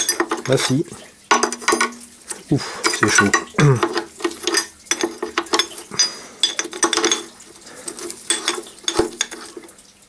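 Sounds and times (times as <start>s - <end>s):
wrench clinking against metal: 0.0s - 2.0s, 2.8s - 9.6s
faint steady hum: 0.0s - 10.0s.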